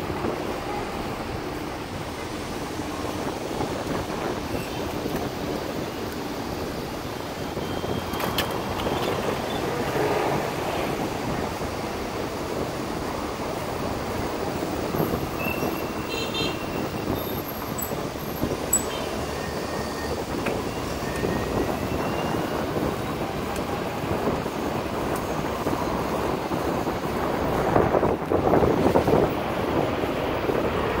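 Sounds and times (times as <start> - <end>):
city road traffic: 0.0 - 31.0.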